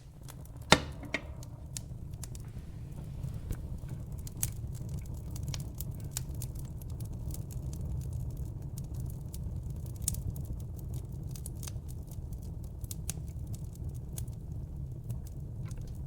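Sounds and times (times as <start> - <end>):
logs crackling and popping: 0.0 - 16.0
low rumble of fire: 0.0 - 16.0.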